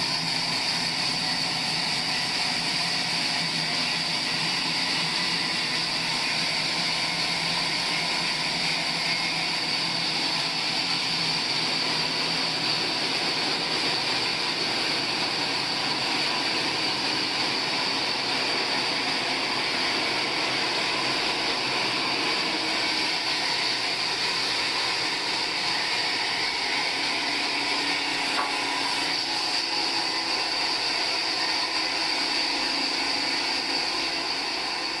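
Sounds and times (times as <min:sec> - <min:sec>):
sawmill saw whining: 0:00.0 - 0:35.0.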